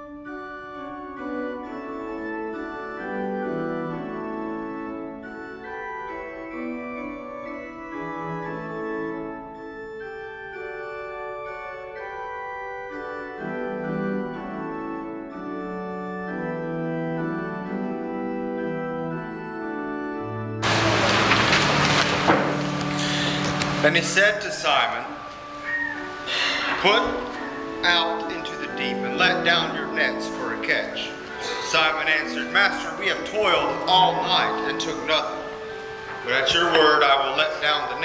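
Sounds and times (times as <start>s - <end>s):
organ playing slow chords: 0.0s - 38.0s.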